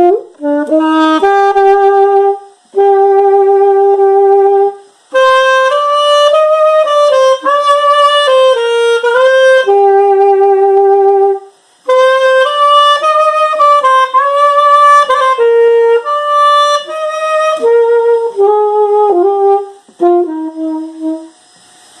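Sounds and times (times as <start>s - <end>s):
solo saxophone melody: 0.0s - 21.5s.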